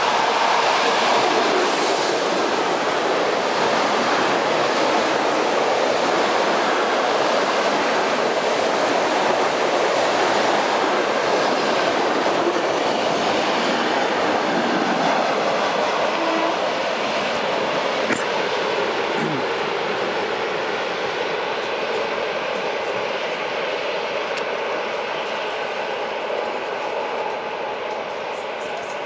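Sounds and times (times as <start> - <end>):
train passing at speed: 0.0 - 29.0.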